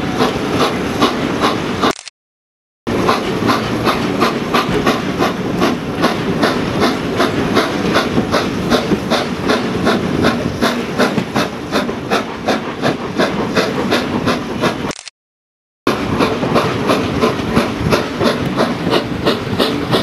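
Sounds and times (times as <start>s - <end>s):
coaches rumbling on rails: 0.0s - 1.9s, 2.9s - 14.9s, 15.9s - 20.0s
steam locomotive chuffing: 0.0s - 2.0s, 2.9s - 15.0s, 15.9s - 20.0s.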